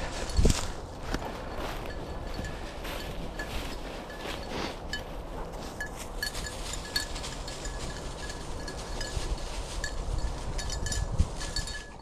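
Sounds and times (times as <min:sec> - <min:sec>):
footsteps through field cover: 0:00.0 - 0:12.0.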